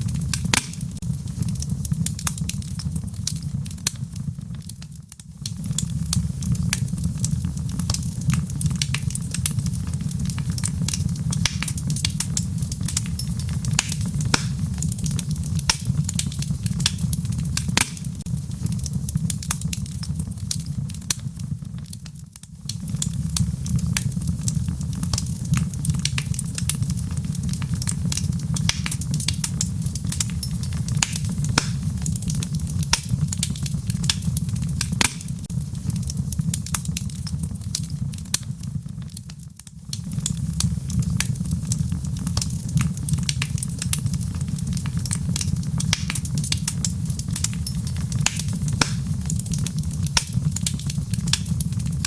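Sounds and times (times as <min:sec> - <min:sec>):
low rumble of flames: 0:00.0 - 0:52.0
wood fire popping and snapping: 0:00.0 - 0:52.0.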